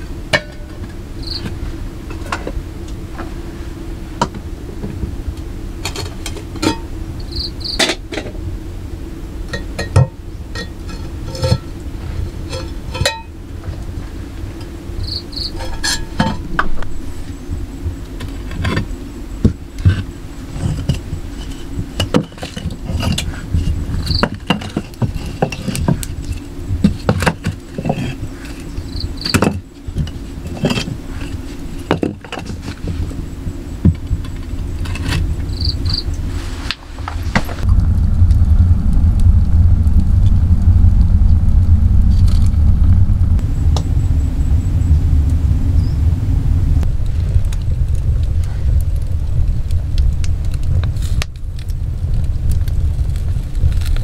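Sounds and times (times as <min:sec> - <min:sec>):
steady low rumble: 0:00.0 - 0:54.0
high insect chirps: 0:00.7 - 0:03.0, 0:05.4 - 0:36.4, 0:37.3 - 0:48.2.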